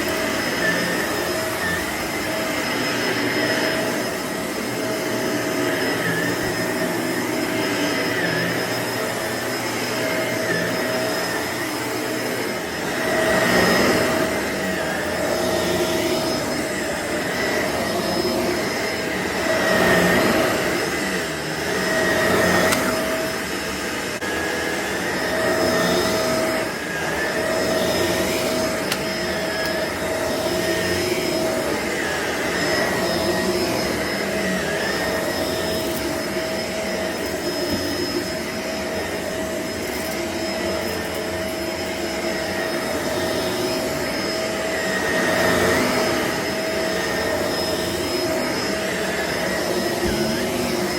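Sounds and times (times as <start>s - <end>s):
vacuum cleaner motor whine: 0.0s - 50.9s.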